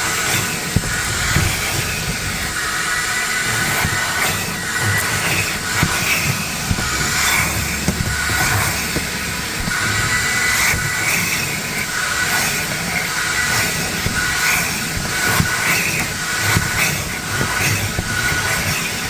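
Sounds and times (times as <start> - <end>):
vacuum whine and rushing air: 0.0 - 19.0.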